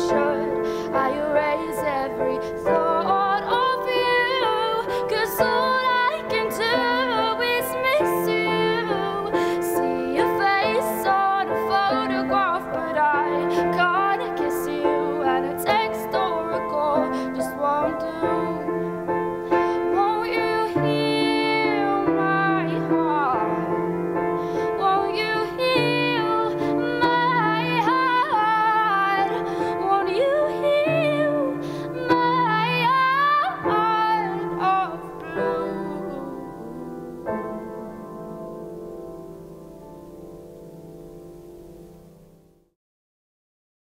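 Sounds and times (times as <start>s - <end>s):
woman singing slow song: 0.0s - 38.6s
piano accompaniment: 0.0s - 42.7s.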